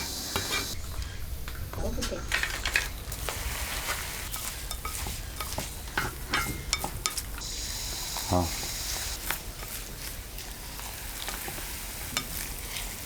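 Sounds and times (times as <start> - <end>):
spatula scraping a pan: 0.0 - 1.4, 2.2 - 7.6, 8.5 - 13.0
food sizzling in hot oil: 0.0 - 13.0.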